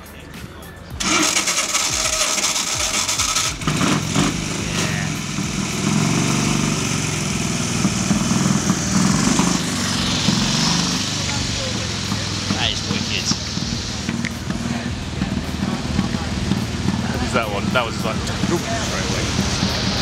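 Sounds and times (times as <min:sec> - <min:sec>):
engine revving: 0:01.0 - 0:20.0.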